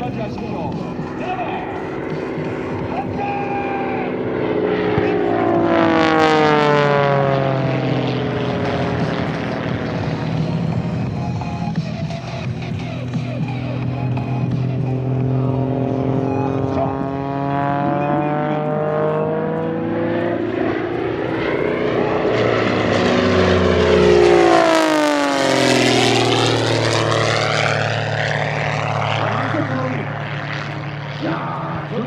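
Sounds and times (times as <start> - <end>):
propeller plane flying past: 0.0 - 32.0.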